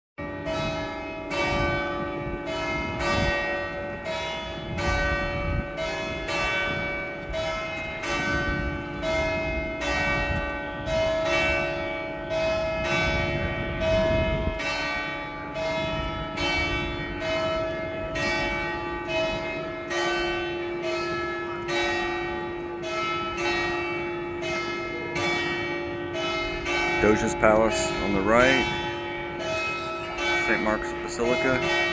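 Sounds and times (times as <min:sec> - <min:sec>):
church bells ringing rapidly: 0:00.2 - 0:31.9.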